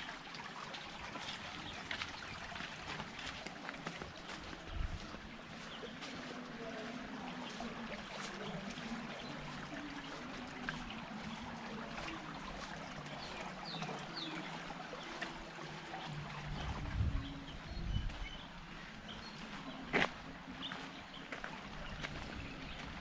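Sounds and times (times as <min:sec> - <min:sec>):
water trickling in a stream: 0:00.0 - 0:23.0.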